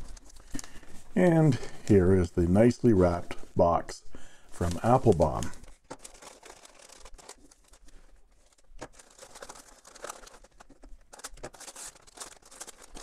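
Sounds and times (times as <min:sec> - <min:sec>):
paper crinkling and rustling: 0:00.0 - 0:02.0, 0:04.5 - 0:13.0.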